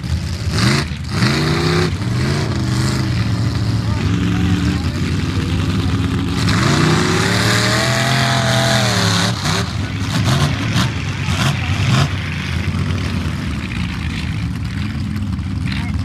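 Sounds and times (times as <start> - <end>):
engine crackles: 0.0 - 16.0
truck engine revving: 0.0 - 16.0.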